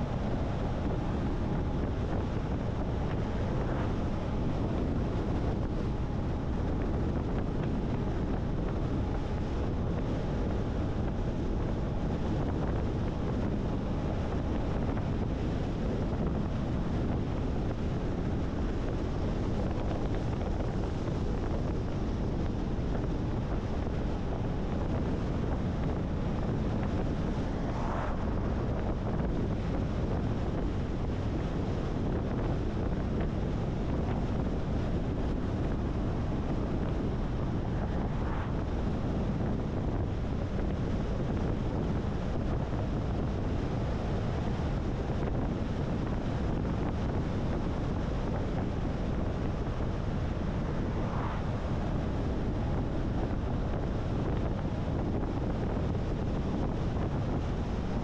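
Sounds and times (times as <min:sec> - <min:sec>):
car road and wind noise: 0:00.0 - 0:58.0
wind buffeting microphone: 0:00.0 - 0:58.0.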